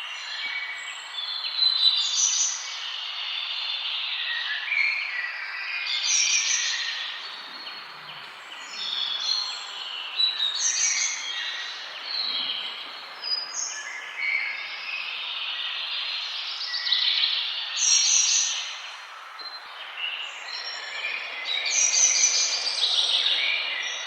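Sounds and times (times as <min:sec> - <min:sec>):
birds singing and chirping: 0:00.0 - 0:24.0.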